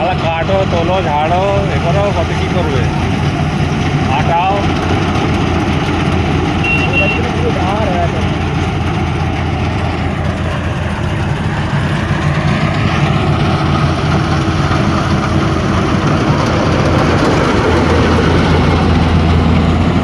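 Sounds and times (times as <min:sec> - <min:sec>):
harvester engine humming: 0:00.0 - 0:20.0.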